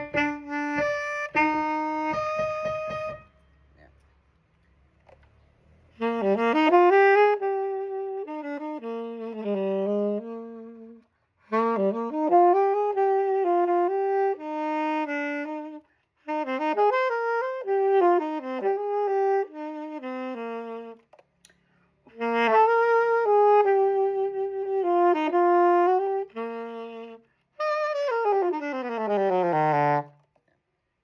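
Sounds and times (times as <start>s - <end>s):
saxophone melody: 0.0s - 3.8s, 5.9s - 21.2s, 22.0s - 30.4s.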